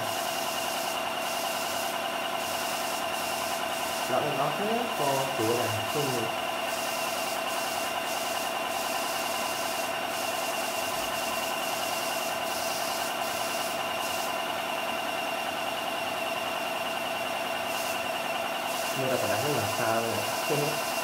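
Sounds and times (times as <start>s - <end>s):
airbrush air hiss: 0.0s - 14.4s, 17.6s - 21.0s
air compressor humming and whining: 0.0s - 21.0s.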